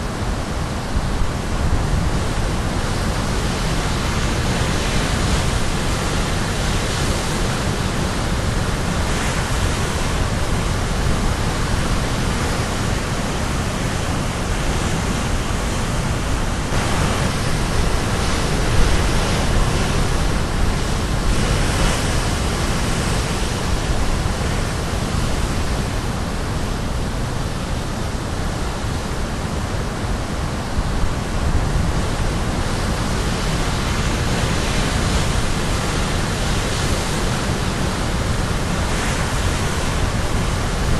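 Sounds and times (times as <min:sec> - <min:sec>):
surf breaking on the shore: 0:00.0 - 0:40.9.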